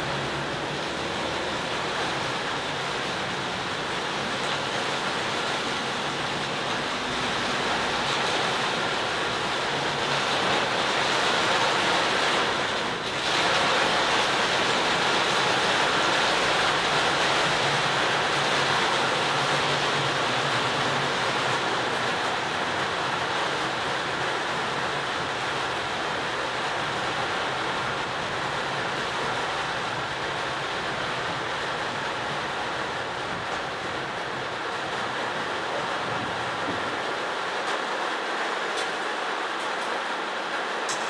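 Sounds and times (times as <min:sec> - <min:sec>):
heavy rain on a car: 0:00.0 - 0:41.0
tyres on wet road: 0:00.0 - 0:41.0.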